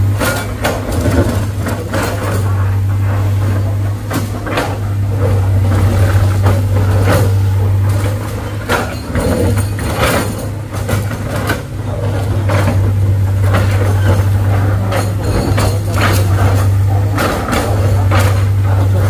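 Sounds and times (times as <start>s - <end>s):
knocks and clatter: 0.1s - 19.0s.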